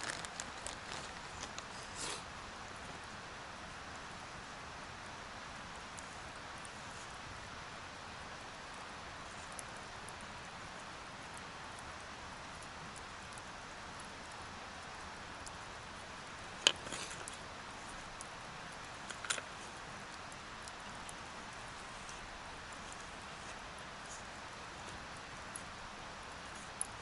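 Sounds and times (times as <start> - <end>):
river flowing: 0.0 - 27.0.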